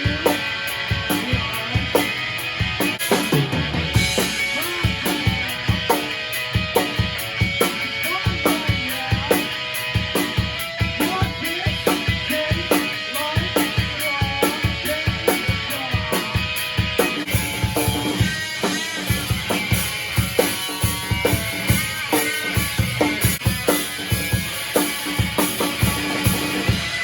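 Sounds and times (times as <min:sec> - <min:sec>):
drum kit beat: 0:00.0 - 0:27.0
rock music: 0:00.0 - 0:27.0.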